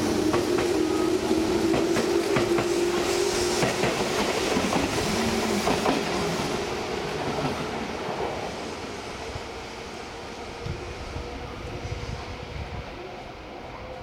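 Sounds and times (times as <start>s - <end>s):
train hum: 0.0s - 14.0s.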